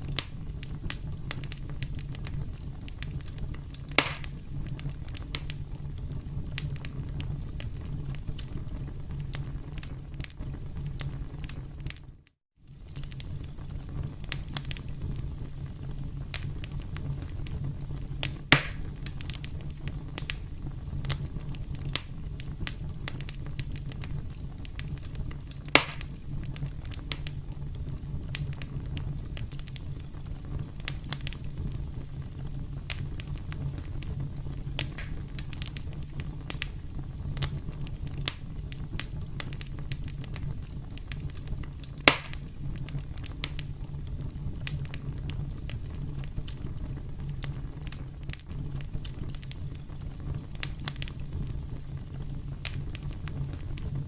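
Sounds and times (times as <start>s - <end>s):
loud sharp fire pops: 0.0s - 12.0s, 12.7s - 54.0s
campfire crackling: 0.0s - 54.0s.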